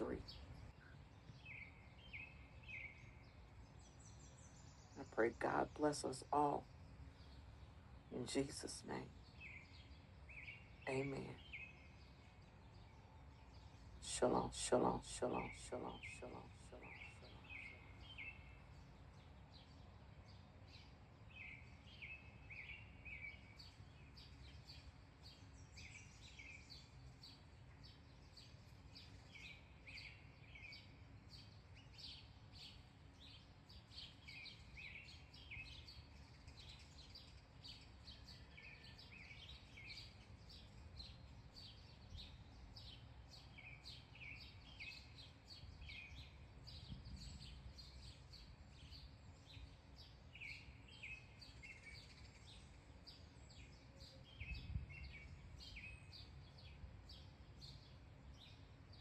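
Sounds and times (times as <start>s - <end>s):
low outdoor rumble: 0.0s - 59.0s
small birds chirping: 0.0s - 59.0s.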